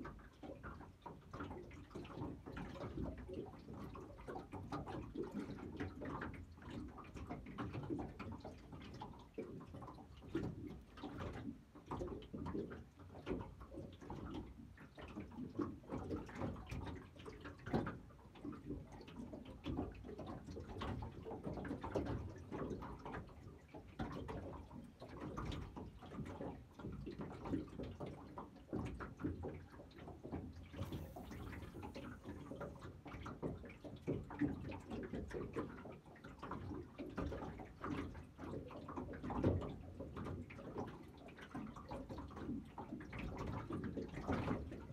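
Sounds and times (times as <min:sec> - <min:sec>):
waves lapping against boat hull: 0:00.0 - 0:44.9.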